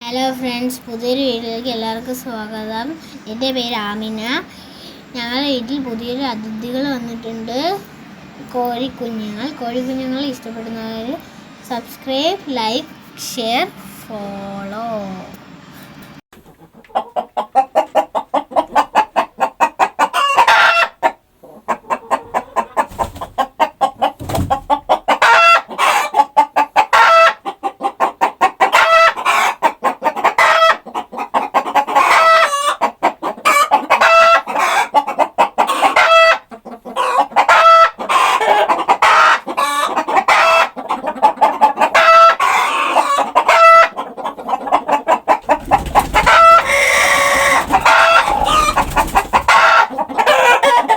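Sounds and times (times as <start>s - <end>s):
chickens clucking: 0.1s - 50.9s.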